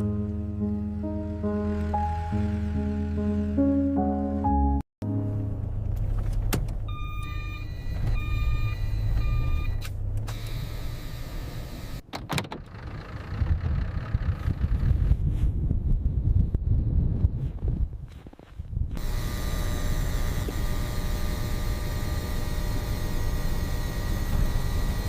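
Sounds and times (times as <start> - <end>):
car low rumble: 0.0 - 25.0.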